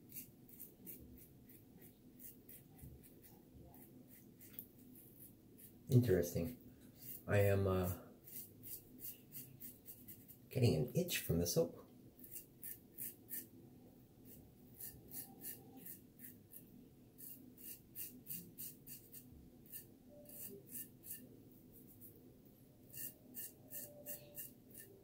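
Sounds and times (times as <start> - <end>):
razor scraping stubble: 0.1 - 7.6, 8.2 - 10.8, 12.2 - 13.5, 14.3 - 16.6, 17.2 - 22.0, 22.8 - 25.0.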